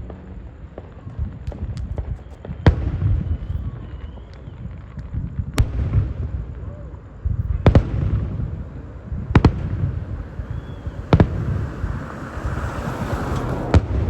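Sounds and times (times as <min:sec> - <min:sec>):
fireworks bangs: 0:00.0 - 0:14.0
low rumble of shells bursting: 0:00.0 - 0:14.0.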